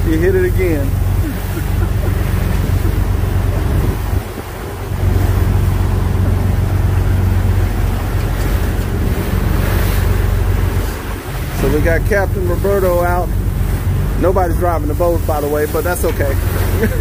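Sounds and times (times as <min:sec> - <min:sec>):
boat engine droning: 0:00.0 - 0:17.0
wake water rushing: 0:00.0 - 0:17.0
wind: 0:00.0 - 0:17.0.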